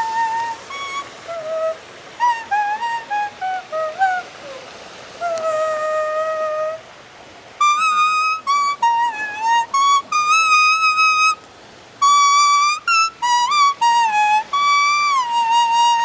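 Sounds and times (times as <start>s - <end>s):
leaf played as reed melody: 0.0s - 16.0s.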